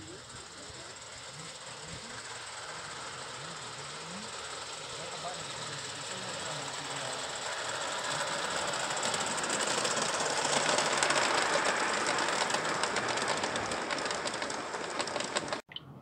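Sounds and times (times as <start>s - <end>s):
model train wheels rumbling on rails: 0.0s - 15.6s
sharp clicks of passing coaches: 2.2s - 15.8s.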